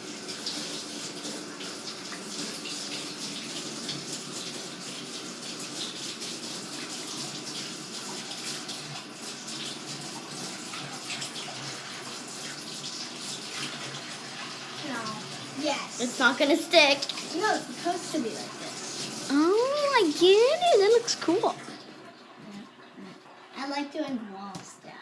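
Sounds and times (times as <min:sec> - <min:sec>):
hands being washed: 0:00.0 - 0:24.8
water running from a tap: 0:00.0 - 0:25.0.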